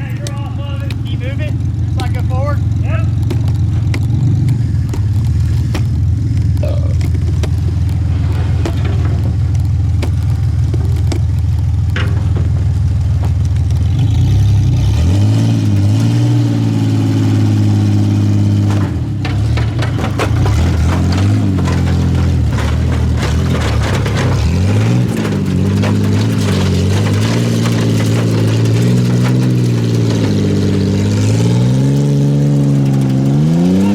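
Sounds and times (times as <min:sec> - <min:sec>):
truck engine revving: 0:00.0 - 0:33.9.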